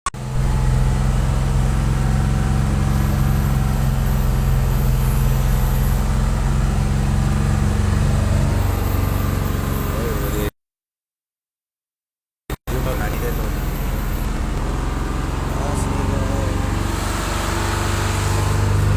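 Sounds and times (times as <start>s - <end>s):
truck engine droning: 0.2s - 10.5s, 12.6s - 18.9s.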